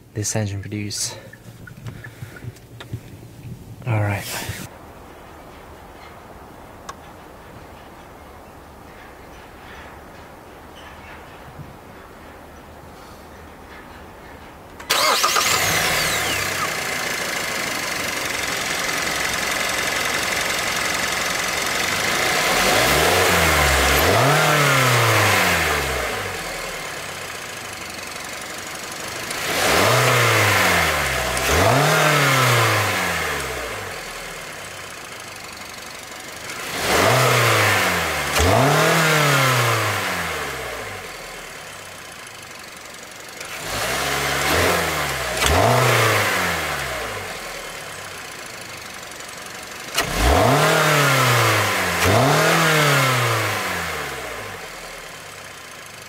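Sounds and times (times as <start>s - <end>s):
car engine idling and revving: 1.3s - 8.0s, 13.4s - 56.0s.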